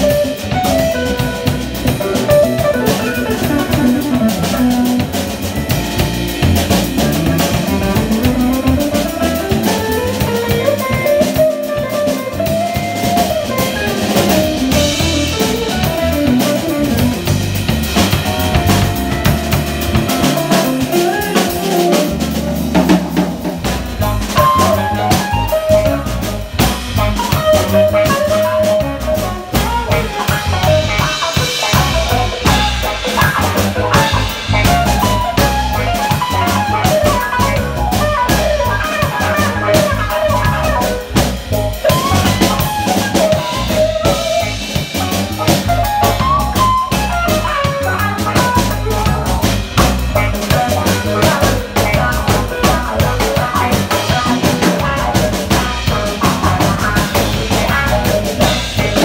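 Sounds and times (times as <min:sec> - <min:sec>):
drum kit with snare rimshots: 0:00.0 - 0:59.0
electric bass: 0:00.0 - 0:59.0
electric guitar: 0:00.0 - 0:59.0
keyboard: 0:00.0 - 0:59.0.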